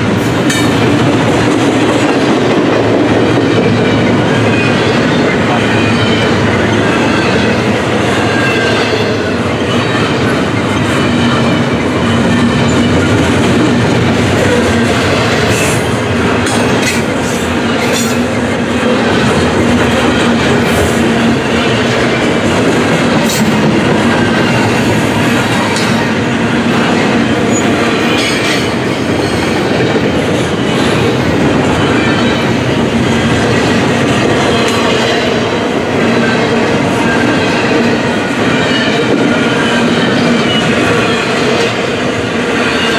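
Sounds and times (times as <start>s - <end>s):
freight train wheels rumbling: 0.0s - 42.9s
train clickety-clack: 0.0s - 42.9s.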